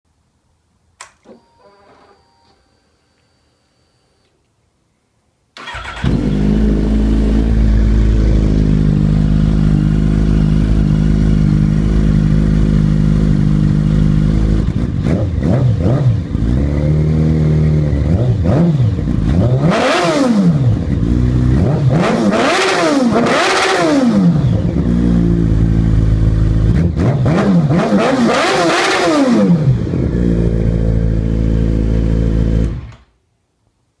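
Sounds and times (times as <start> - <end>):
motorcycle engine revving: 5.6 - 33.0.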